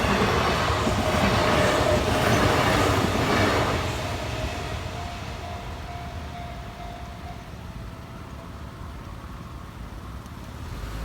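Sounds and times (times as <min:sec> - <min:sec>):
train whine: 0:00.0 - 0:10.3.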